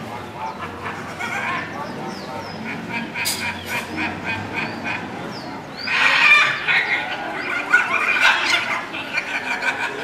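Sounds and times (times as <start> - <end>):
macaws short calls: 0.2 - 10.0.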